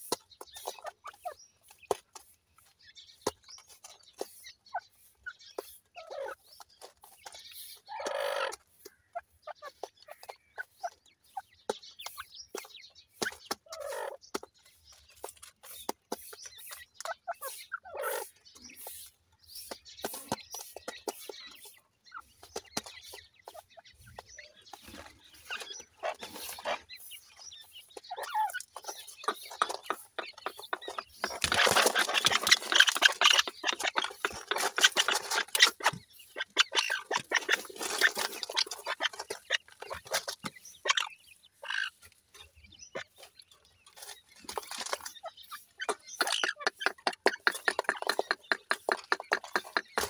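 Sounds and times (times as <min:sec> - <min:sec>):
hen clucking: 0:00.0 - 0:14.5, 0:15.3 - 0:50.0
chicks cheeping: 0:00.0 - 0:50.0
rustling and scratching on gravel: 0:00.0 - 0:50.0.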